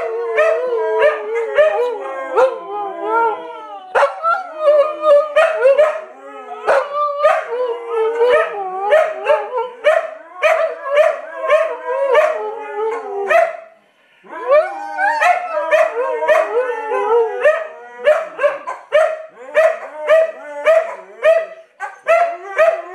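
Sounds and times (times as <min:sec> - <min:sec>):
dogs howling together: 0:00.0 - 0:13.4, 0:14.3 - 0:18.7, 0:19.3 - 0:22.9.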